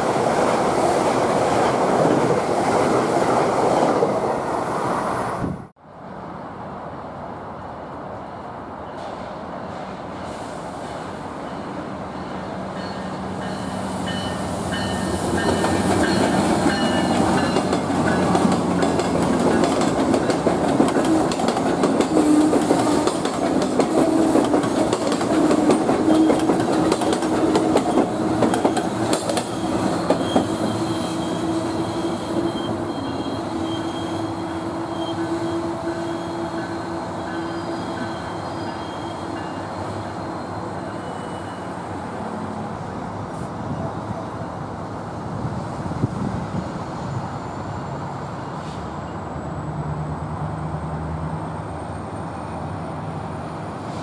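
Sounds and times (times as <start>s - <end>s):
train passing at speed: 0.0s - 54.0s.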